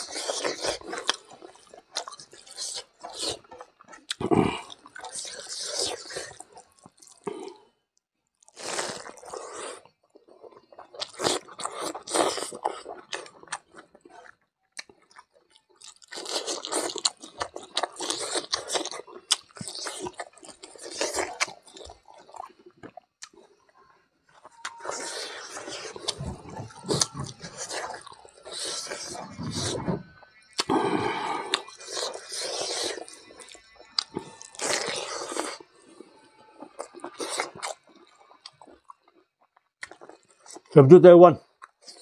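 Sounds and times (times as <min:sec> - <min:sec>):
person chewing and crunching: 0:00.0 - 0:07.7, 0:08.3 - 0:40.7, 0:41.4 - 0:42.0.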